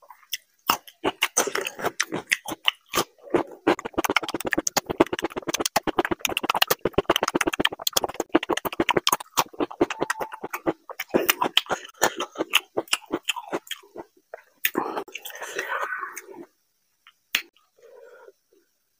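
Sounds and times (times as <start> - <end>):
wet chewing and lip-smacking: 0.1 - 15.6.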